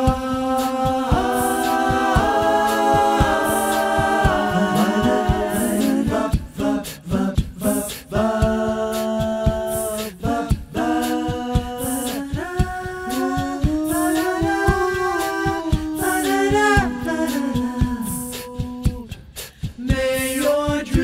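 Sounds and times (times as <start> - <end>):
a cappella group singing: 0.0 - 21.0
light clicking beat: 0.0 - 21.0.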